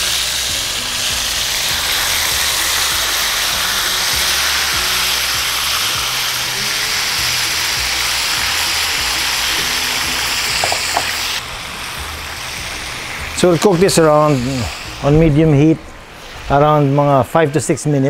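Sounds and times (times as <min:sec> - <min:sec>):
chicken sizzling in oil: 0:00.0 - 0:15.1
soft background music: 0:00.0 - 0:18.0.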